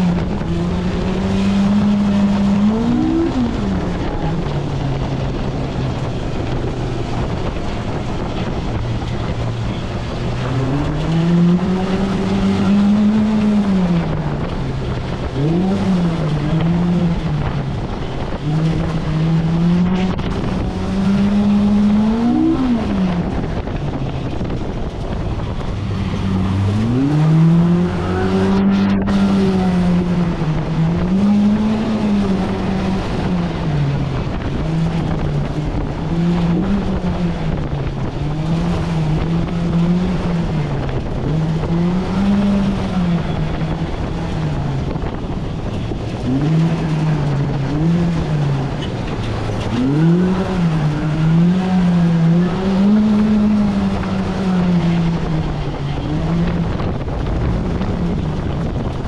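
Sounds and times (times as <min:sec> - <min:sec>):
engine revving: 0:00.0 - 0:59.0.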